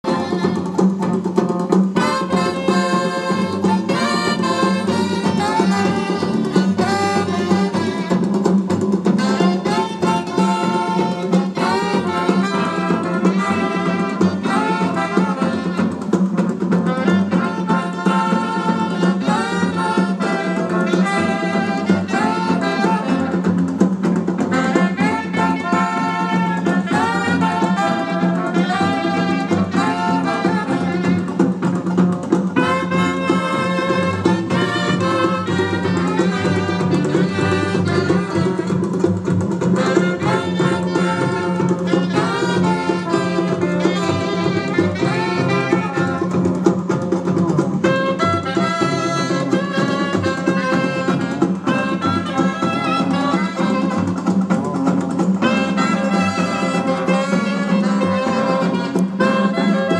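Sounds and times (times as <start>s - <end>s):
jazz music with brass and saxophone: 0.0s - 59.9s.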